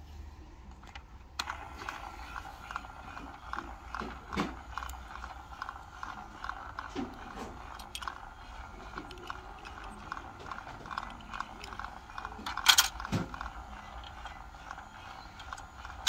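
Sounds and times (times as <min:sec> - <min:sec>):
toy gear mechanism clicking: 0:00.7 - 0:16.0.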